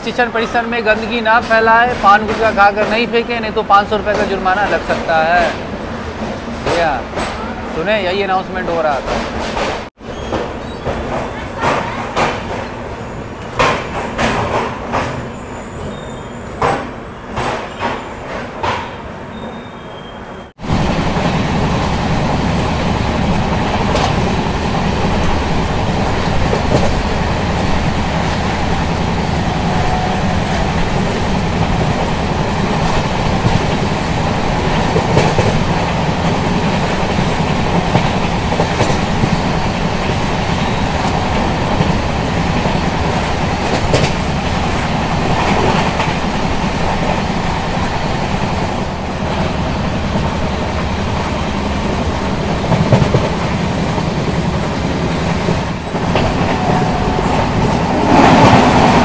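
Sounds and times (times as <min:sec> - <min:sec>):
rush of train wheels on rail: 0:00.1 - 0:59.0.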